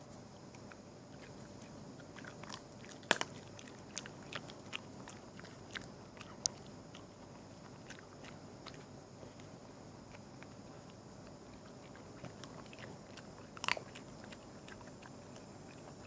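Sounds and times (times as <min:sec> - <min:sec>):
small animal gnawing food: 0:00.3 - 0:16.0.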